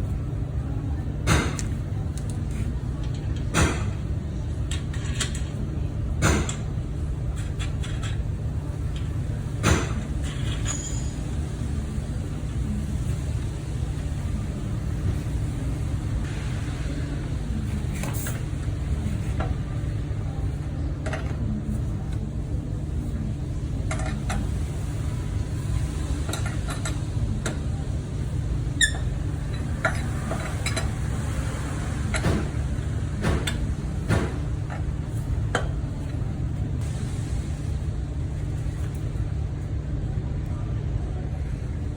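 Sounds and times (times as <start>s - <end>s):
low road rumble: 0.0s - 41.9s.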